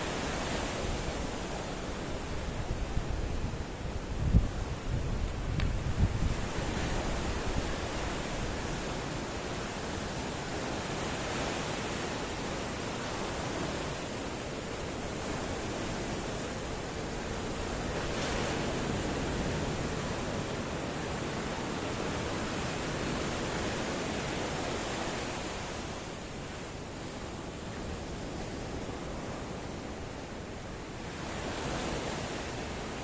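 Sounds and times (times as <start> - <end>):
ocean surf washing: 0.0 - 33.0.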